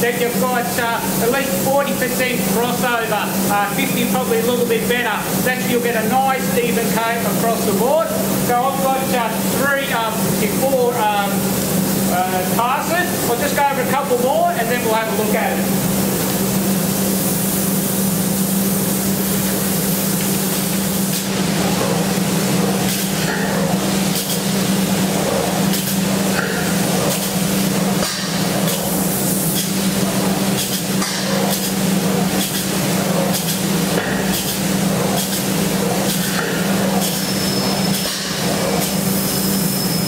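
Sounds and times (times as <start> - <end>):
steady low hum: 0.0 - 39.2
spray gun hissing: 0.6 - 39.8.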